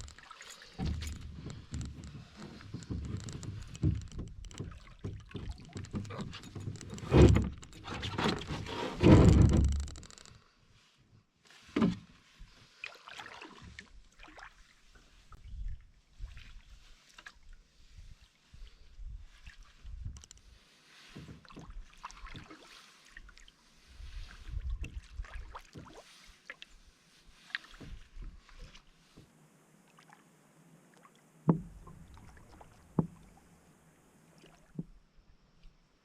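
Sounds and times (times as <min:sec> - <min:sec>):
canoe paddling splashes and knocks: 0:00.0 - 0:10.0, 0:11.5 - 0:18.7, 0:19.3 - 0:35.0.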